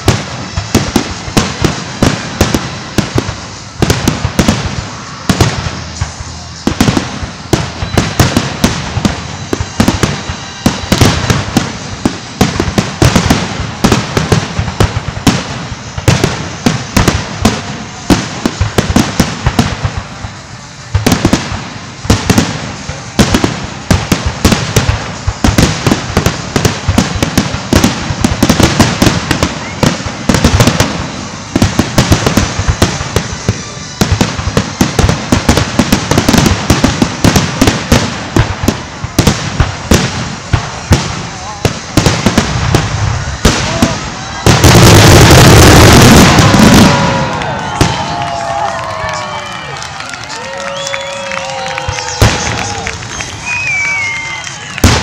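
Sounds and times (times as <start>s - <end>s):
firework shells bursting: 0.0s - 55.0s
fireworks crackle: 0.0s - 55.0s.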